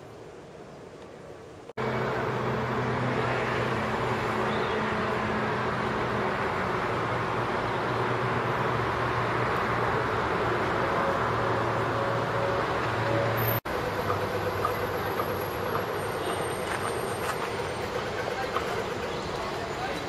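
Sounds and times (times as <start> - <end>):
city traffic: 0.0 - 20.0.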